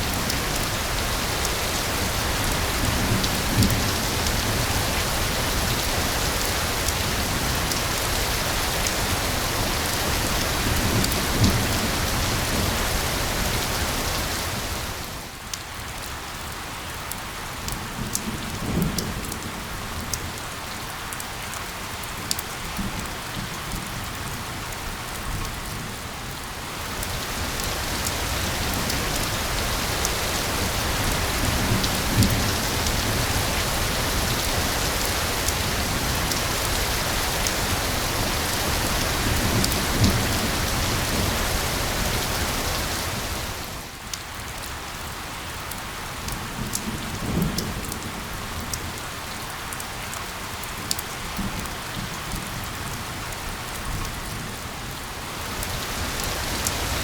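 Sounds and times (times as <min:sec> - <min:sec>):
rainfall hiss: 0:00.0 - 0:57.0.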